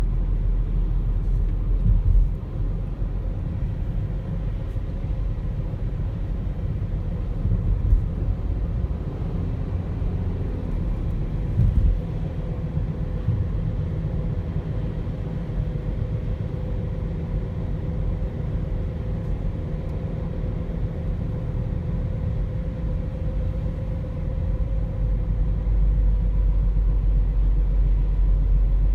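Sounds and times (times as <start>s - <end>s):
road and engine rumble: 0.0s - 28.9s.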